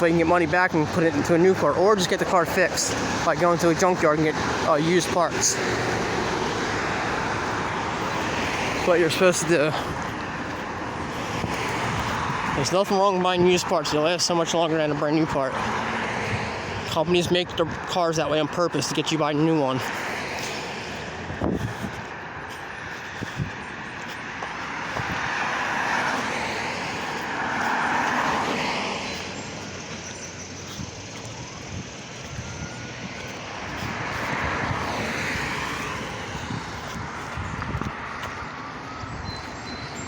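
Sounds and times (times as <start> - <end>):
passing cars whooshing: 0.0 - 18.3, 18.9 - 40.0.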